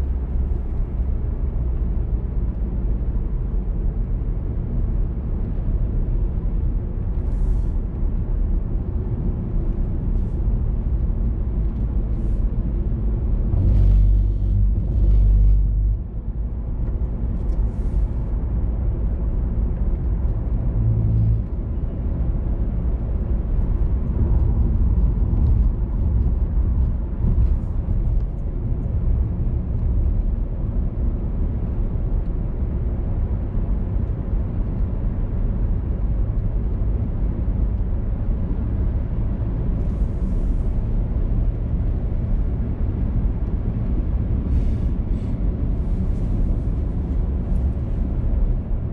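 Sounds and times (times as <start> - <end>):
car driving on road: 0.0 - 48.9.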